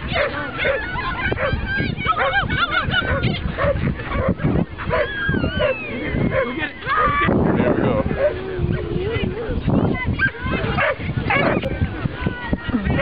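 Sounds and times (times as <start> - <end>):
dogs barking and yelping: 0.0 - 7.3, 7.9 - 11.9.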